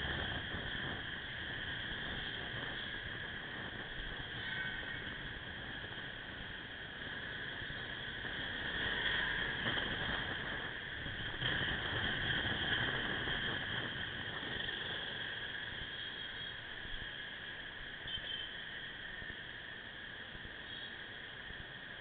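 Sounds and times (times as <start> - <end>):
motorcycle riding drone: 0.0 - 22.0.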